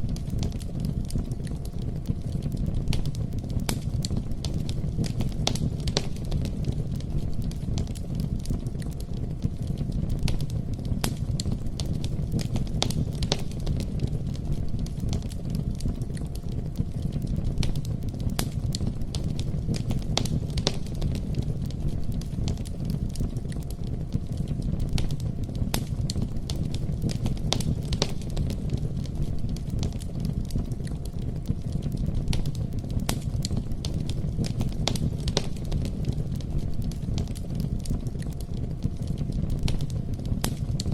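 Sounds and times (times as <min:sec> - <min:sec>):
bonfire crackling and popping: 0:00.0 - 0:40.9
low rumble of flames: 0:00.0 - 0:40.9.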